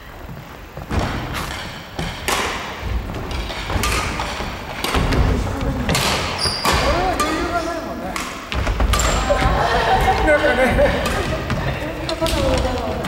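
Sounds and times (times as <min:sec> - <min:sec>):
rackets hitting shuttlecock: 0:01.0 - 0:13.0.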